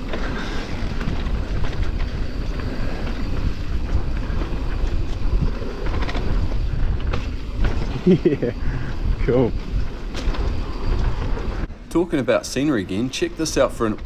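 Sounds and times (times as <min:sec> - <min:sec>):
bike clicks and rattles: 0:00.0 - 0:14.0
tyres rumbling on dirt: 0:00.0 - 0:14.0
wind buffeting microphone: 0:00.0 - 0:14.0.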